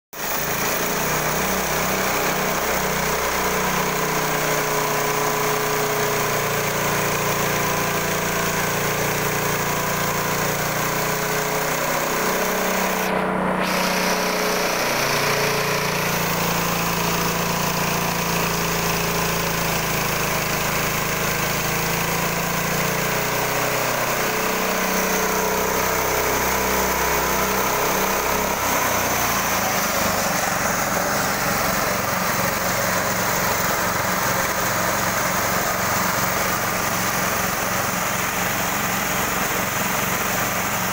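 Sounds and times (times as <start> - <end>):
blade cutting wood: 0.2 - 40.9
sawmill engine drone: 0.2 - 40.9.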